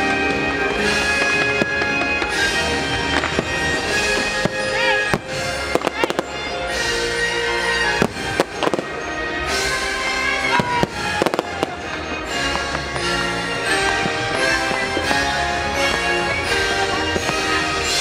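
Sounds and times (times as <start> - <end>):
fireworks bangs and crackles: 0.0 - 18.0
loud christmas show music: 0.0 - 18.0.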